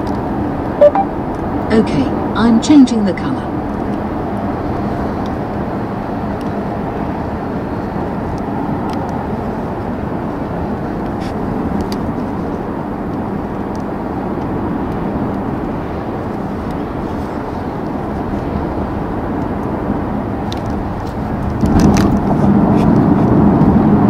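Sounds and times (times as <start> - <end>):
tyre and road noise: 3.5 - 24.0.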